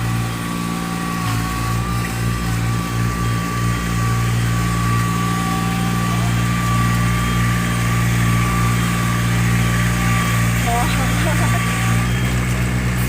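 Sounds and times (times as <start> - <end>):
thin high whine: 0.0 - 13.0
tractor engine running: 0.0 - 13.0.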